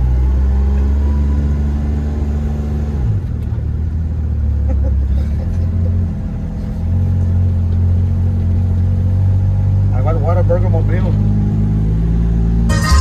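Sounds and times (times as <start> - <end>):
minivan engine: 0.0 - 13.0
road noise inside cabin: 0.0 - 13.0.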